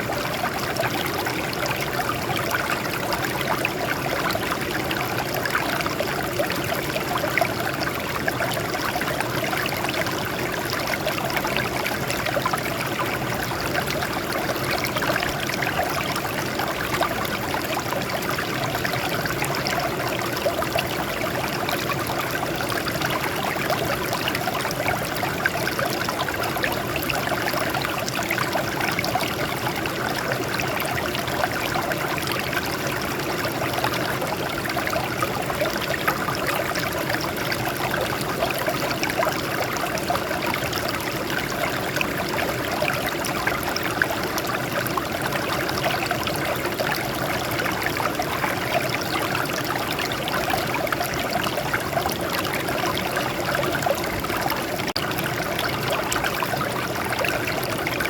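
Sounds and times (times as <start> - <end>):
water flowing over rocks: 0.0 - 58.0.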